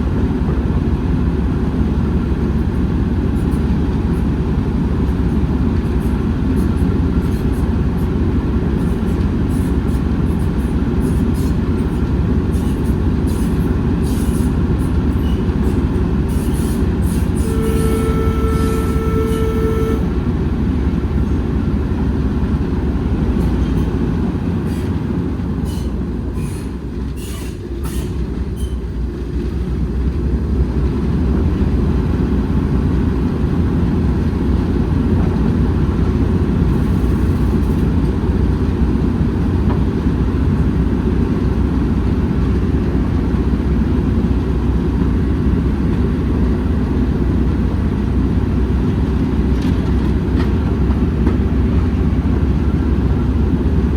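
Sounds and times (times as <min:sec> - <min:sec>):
train rumbling along track: 0:00.0 - 0:53.9.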